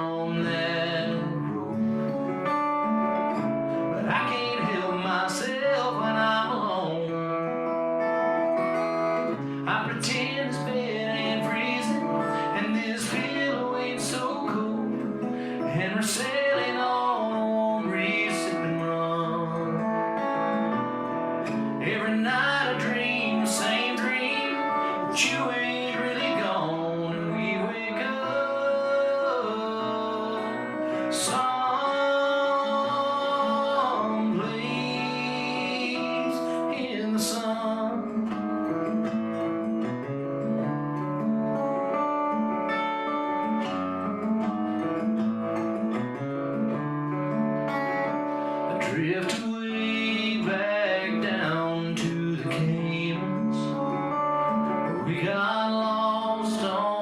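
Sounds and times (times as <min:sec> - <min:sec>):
person singing: 0:00.0 - 0:39.2, 0:46.6 - 0:57.0
acoustic guitar strumming: 0:00.0 - 0:57.0.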